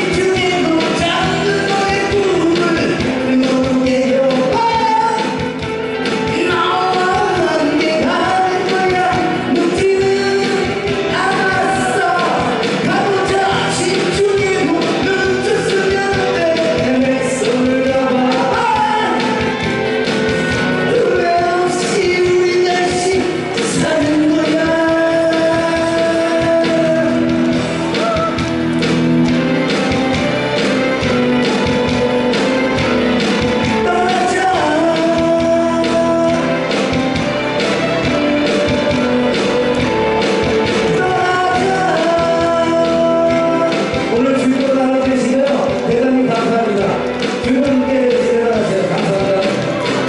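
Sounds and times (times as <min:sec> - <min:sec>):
man singing into microphone: 0:00.0 - 0:05.6, 0:06.2 - 0:28.4, 0:33.5 - 0:37.2, 0:40.5 - 0:50.0
prerecorded backing track: 0:00.0 - 0:50.0.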